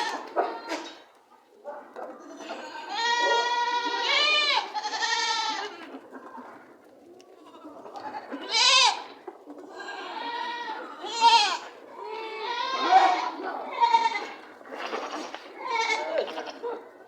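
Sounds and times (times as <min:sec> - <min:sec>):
goats bleating: 0:00.0 - 0:01.0, 0:02.2 - 0:06.0, 0:07.4 - 0:16.9.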